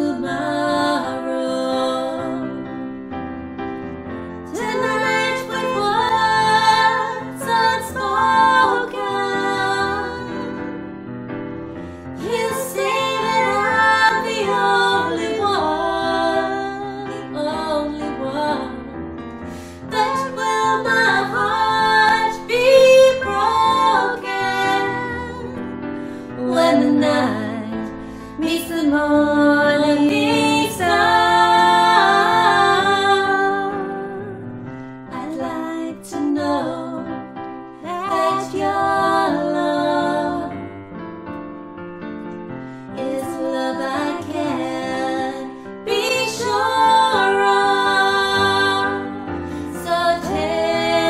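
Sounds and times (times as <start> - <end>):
women singing: 0.0 - 2.8, 4.4 - 10.9, 12.0 - 40.9, 43.0 - 51.0
piano chords: 0.0 - 51.0.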